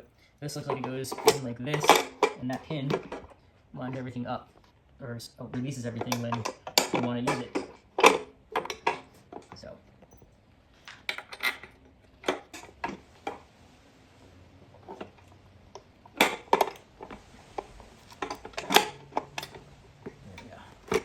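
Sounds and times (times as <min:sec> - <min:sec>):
metal parts clinking: 0:00.6 - 0:04.7, 0:05.5 - 0:13.4, 0:14.8 - 0:21.0.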